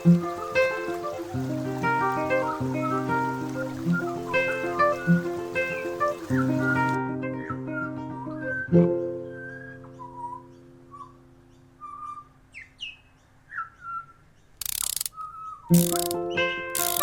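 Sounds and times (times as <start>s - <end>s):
bird-like chirps: 0.0s - 17.0s.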